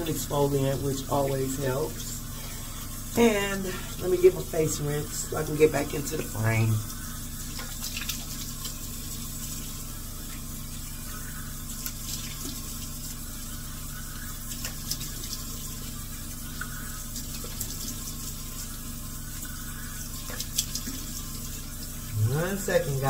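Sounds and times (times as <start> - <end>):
small water splashes: 0.0 - 23.0.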